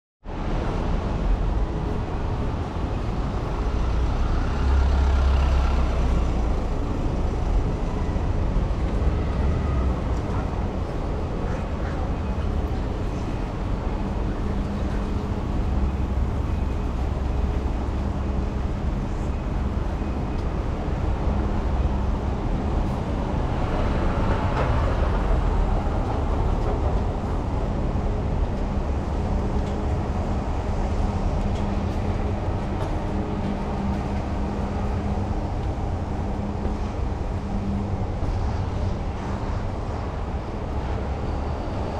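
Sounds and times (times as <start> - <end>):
engine hum: 0.3 - 41.9
traffic on wet roads: 0.3 - 41.9.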